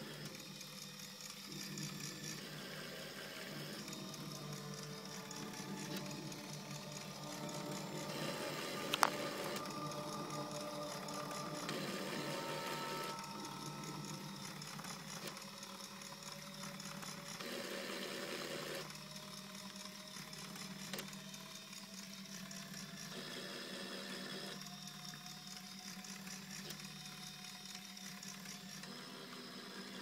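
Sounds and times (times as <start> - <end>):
electric motors whirring: 0.0 - 30.0.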